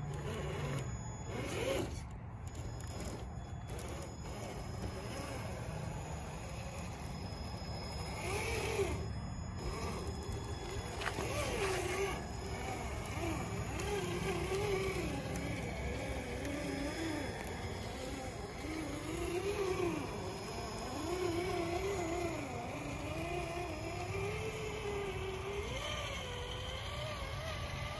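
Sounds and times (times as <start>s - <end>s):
electric motor whining: 0.0s - 27.9s.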